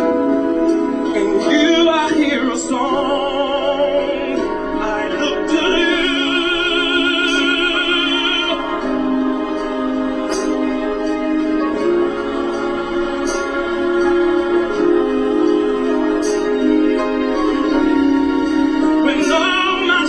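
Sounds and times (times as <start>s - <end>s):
instrumental backing: 0.0s - 20.0s
singer with strong vibrato: 1.0s - 20.0s.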